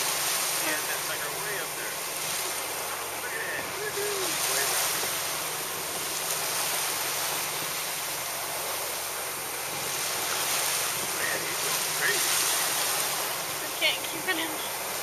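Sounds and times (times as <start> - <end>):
choppy sea water: 0.0 - 15.0.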